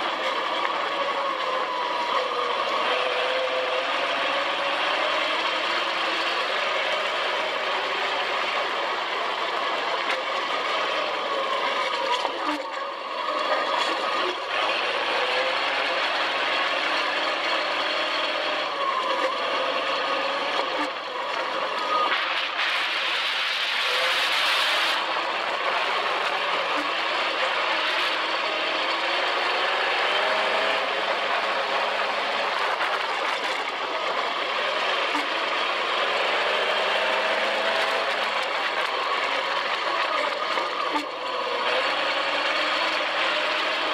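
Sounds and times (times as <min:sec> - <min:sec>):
dune buggy engine running: 0:00.0 - 0:43.9.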